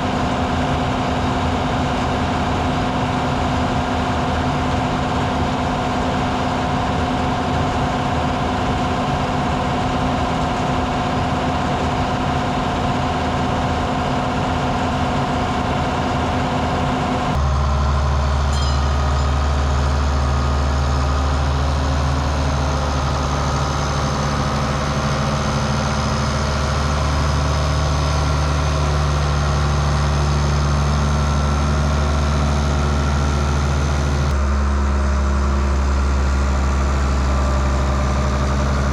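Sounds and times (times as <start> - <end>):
steady whine: 0.0 - 38.9
tractor engine running: 0.0 - 38.9.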